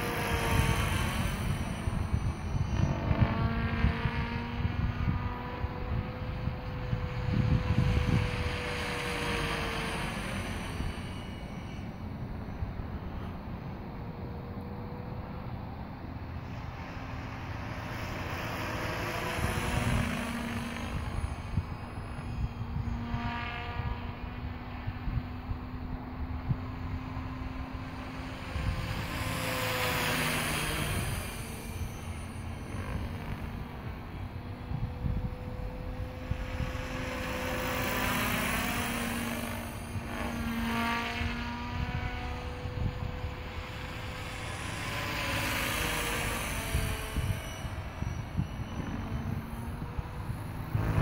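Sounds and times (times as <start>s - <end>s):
drivetrain whine: 0.0s - 51.0s
model helicopter rotor whooshing: 0.0s - 51.0s
wind buffeting microphone: 0.0s - 51.0s.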